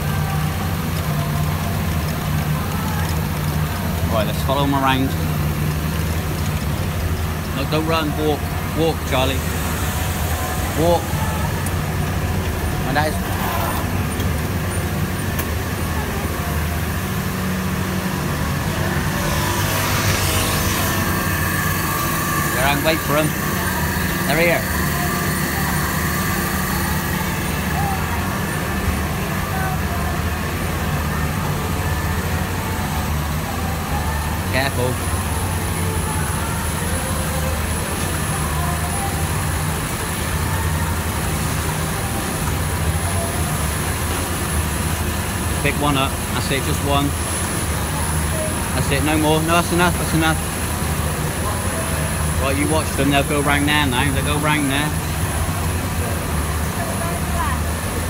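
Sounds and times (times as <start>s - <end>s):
factory machinery humming: 0.0s - 58.0s.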